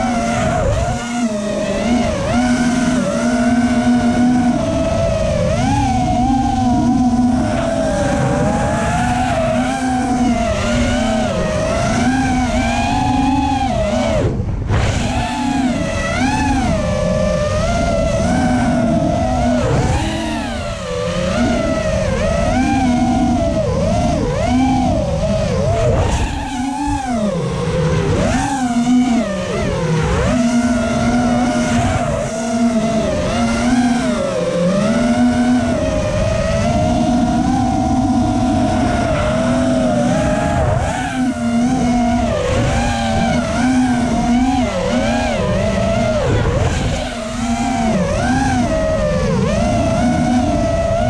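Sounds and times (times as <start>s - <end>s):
quadcopter motors whining: 0.0s - 51.0s.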